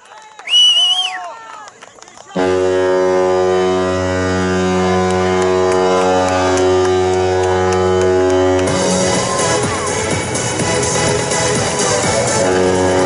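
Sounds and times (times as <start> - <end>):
electronic dance music: 2.4 - 13.0
low horn-like drone: 2.4 - 13.0.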